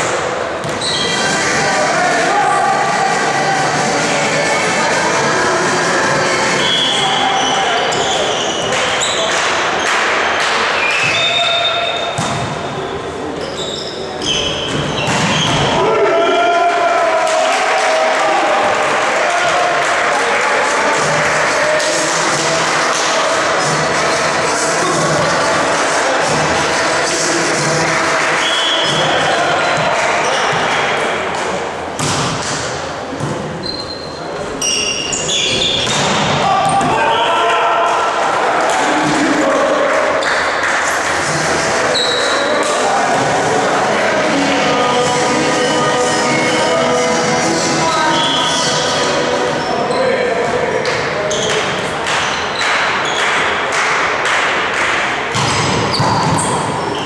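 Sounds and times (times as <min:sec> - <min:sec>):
indistinct voices chattering: 0:00.0 - 0:32.0, 0:32.6 - 0:57.0
indoor hall noise: 0:00.0 - 0:57.0.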